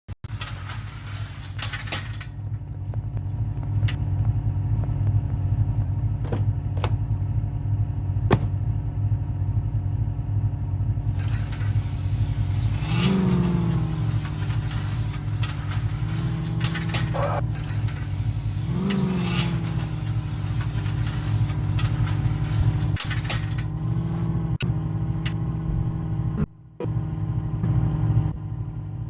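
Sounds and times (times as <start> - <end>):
car engine running: 0.3 - 29.0.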